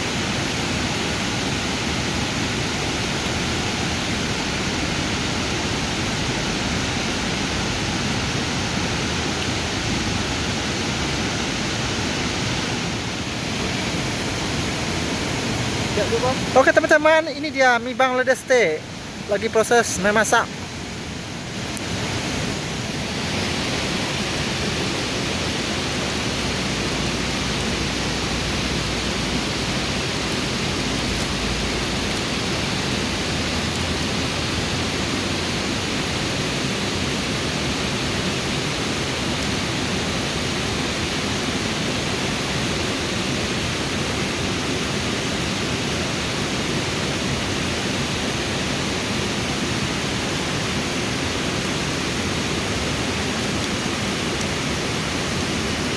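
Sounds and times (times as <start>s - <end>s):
flowing river water: 0.0s - 55.9s.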